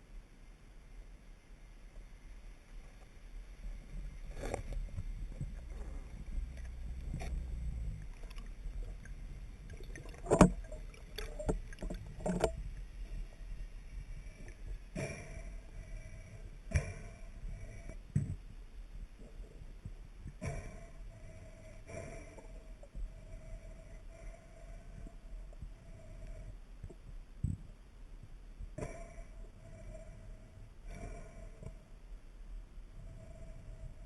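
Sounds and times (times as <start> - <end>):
muffled water rumble: 0.0 - 34.0.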